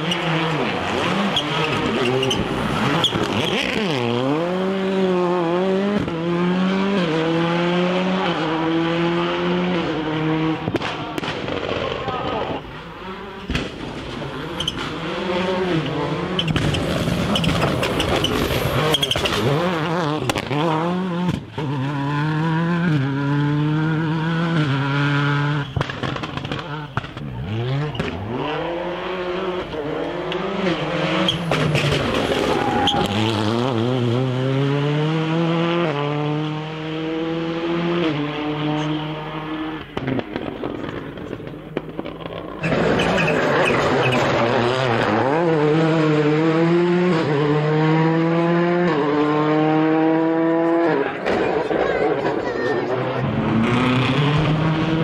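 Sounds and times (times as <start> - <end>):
rally car engines at full throttle: 0.0 - 55.0.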